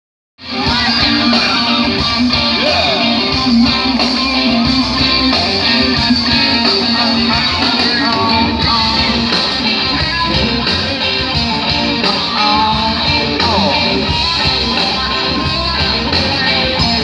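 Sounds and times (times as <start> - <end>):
bass: 0.4 - 17.0
drums: 0.4 - 17.0
strummed electric guitar: 0.4 - 17.0.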